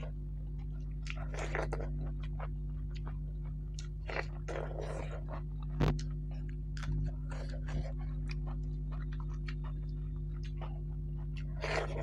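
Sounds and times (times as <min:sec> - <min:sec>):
chewing crisp food: 0:00.0 - 0:12.0.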